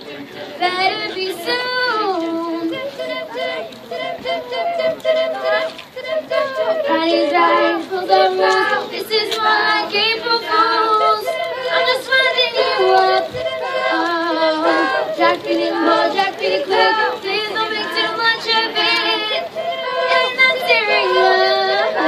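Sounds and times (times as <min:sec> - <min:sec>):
female a cappella group singing: 0:00.6 - 0:22.0.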